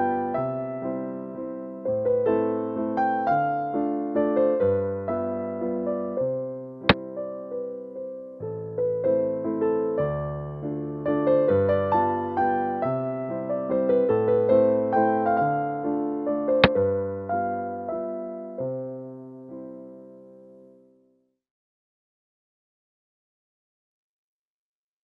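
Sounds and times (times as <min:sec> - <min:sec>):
slow piano music: 0:00.0 - 0:21.2.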